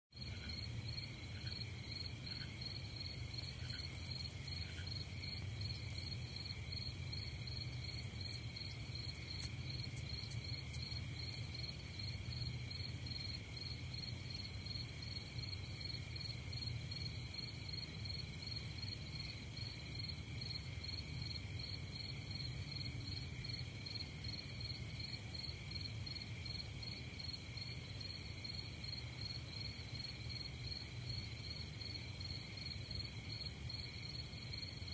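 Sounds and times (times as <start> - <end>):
crickets trilling: 0.2 - 34.9.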